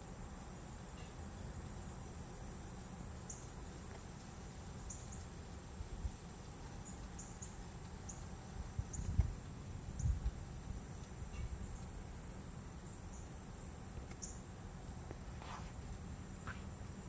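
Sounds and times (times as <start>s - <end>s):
high insect chirps: 0.0s - 17.0s.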